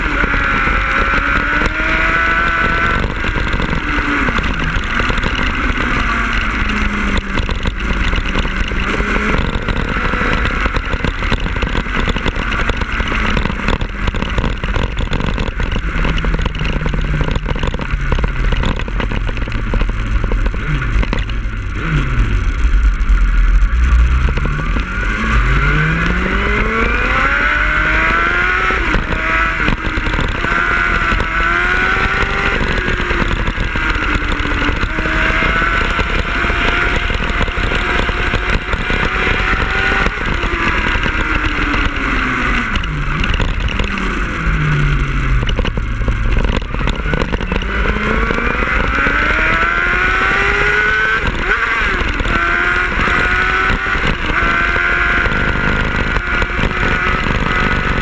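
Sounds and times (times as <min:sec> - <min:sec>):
motorcycle engine revving: 0:00.0 - 0:58.0
wind rumbling on microphone: 0:00.0 - 0:58.0.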